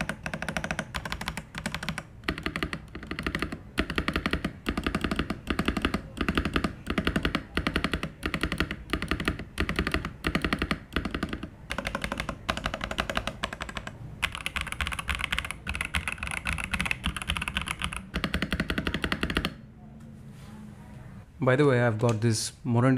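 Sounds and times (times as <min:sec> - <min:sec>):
mechanical keyboard typing: 0:00.0 - 0:19.6.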